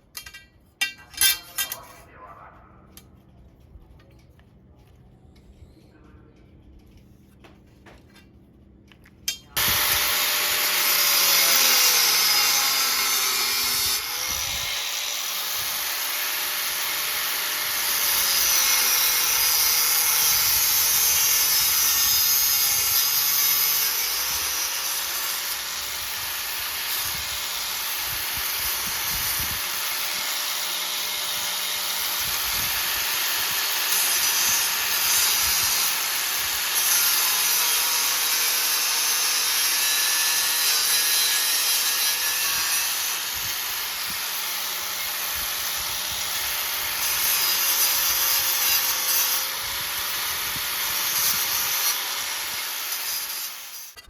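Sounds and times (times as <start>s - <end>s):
electric power tool cutting: 9.6s - 54.0s.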